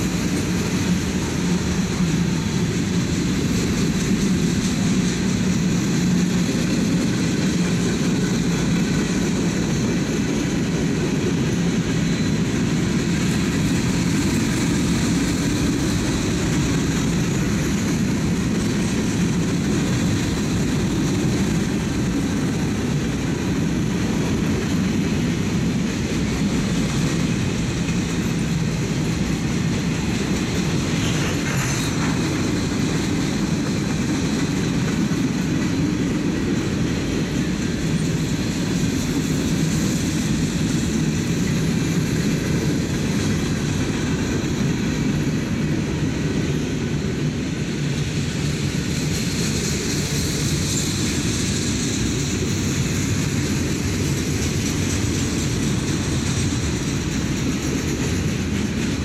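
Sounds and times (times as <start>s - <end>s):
steel train wheels rumbling on rails: 0.0s - 59.0s.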